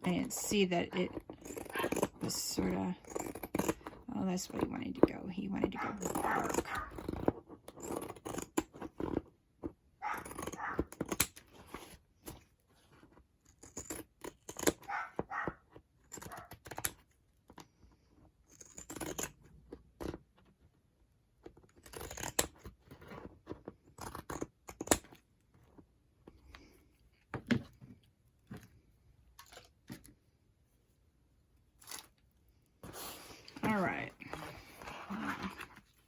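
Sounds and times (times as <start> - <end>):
scissors cutting faux leather: 0.0 - 20.7, 21.4 - 26.8, 32.8 - 36.0.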